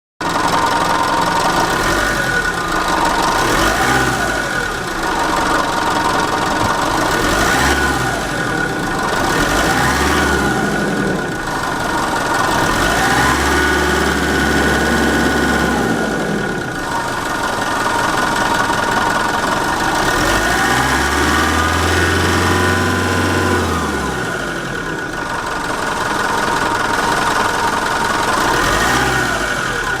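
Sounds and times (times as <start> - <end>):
diesel engine idling and revving: 0.2 - 30.0.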